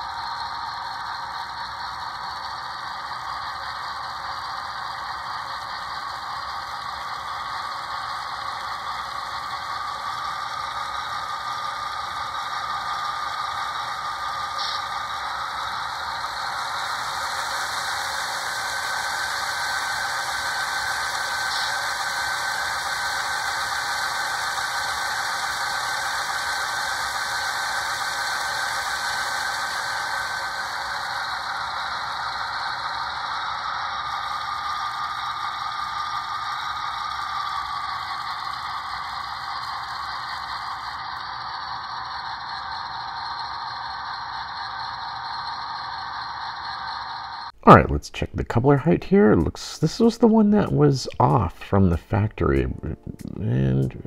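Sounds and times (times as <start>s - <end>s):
model locomotive diesel engine sound: 0.0s - 54.0s
whining tone: 0.0s - 54.0s.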